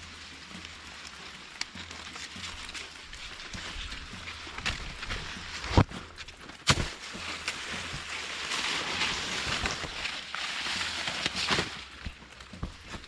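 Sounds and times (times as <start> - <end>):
rustling leaves and husks: 0.0 - 13.0.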